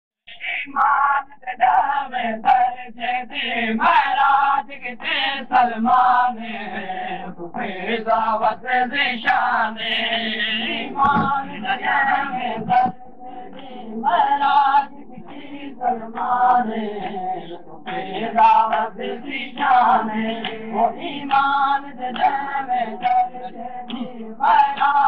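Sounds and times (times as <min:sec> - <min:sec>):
men chanting a lament: 0:00.3 - 0:25.0.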